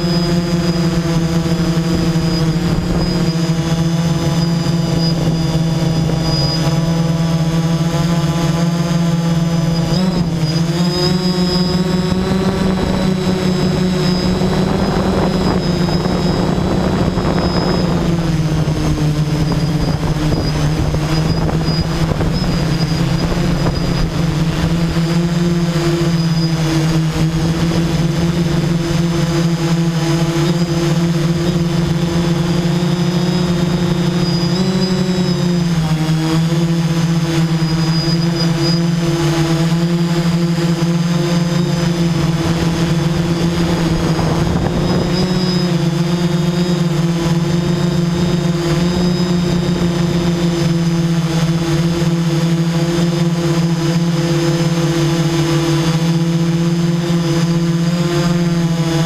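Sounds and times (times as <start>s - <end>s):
drone motors and propellers: 0.0s - 59.0s.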